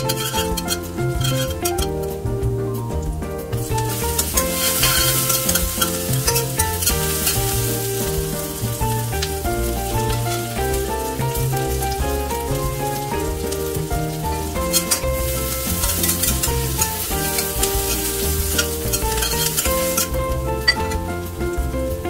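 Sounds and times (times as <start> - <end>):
food sizzling in hot oil: 0.0 - 22.0
instrumental music: 0.0 - 22.0.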